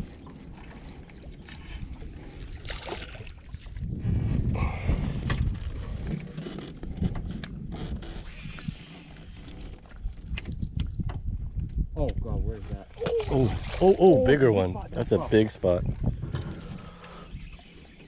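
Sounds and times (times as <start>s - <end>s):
water sloshing against boat: 0.0s - 11.3s, 12.6s - 18.0s
wind on microphone: 0.0s - 17.7s.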